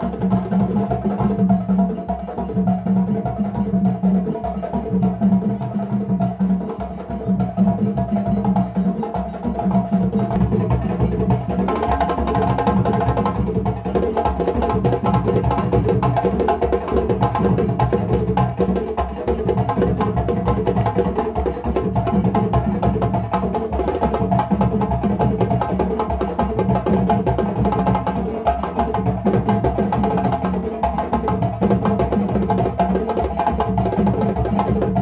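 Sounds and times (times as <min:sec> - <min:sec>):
djembe drums: 0:00.0 - 0:35.0.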